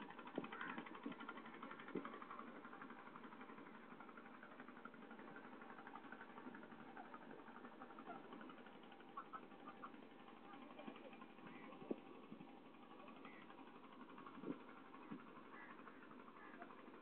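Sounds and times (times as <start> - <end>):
faint engine running: 0.0 - 17.0
fast even rattle: 0.0 - 17.0.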